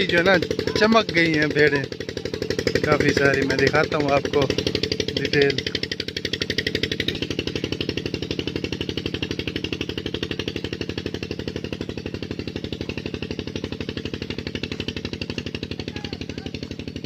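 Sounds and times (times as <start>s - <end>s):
pump engine chugging: 0.0s - 17.0s.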